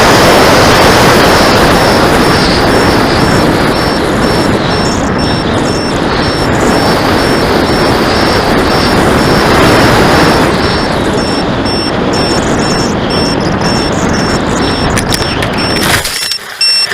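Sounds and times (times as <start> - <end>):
wind rush and buffeting: 0.0 - 16.9
battery alarm beeping: 0.4 - 16.9.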